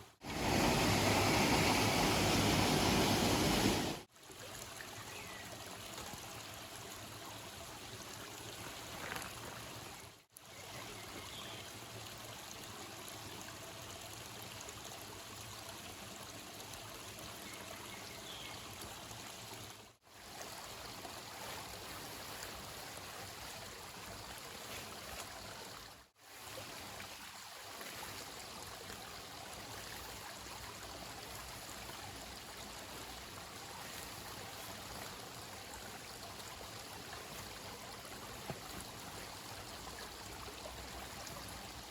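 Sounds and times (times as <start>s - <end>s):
running water: 0.0s - 41.9s.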